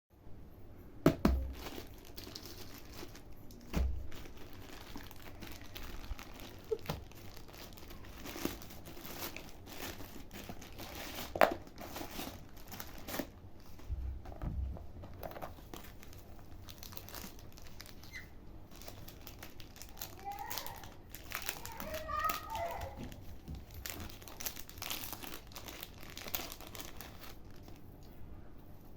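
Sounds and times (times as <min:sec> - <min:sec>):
plastic packaging crinkling and tearing: 0:01.4 - 0:14.0, 0:15.0 - 0:28.0.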